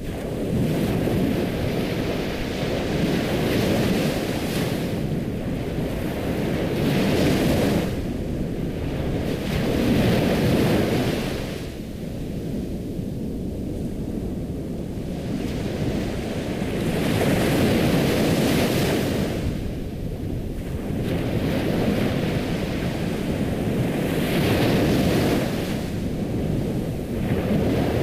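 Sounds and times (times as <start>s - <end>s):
ocean waves washing in: 0.0s - 28.0s.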